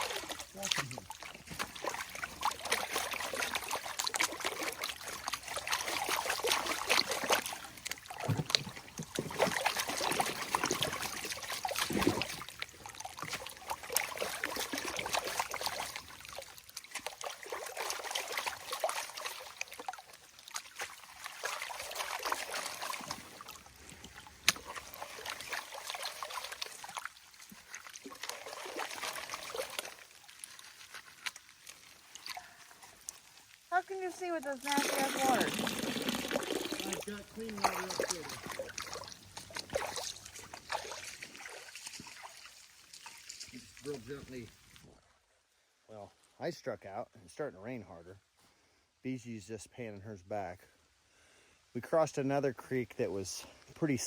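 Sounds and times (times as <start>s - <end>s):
water and gravel sloshing in a pan: 0.0s - 48.4s, 51.8s - 54.0s.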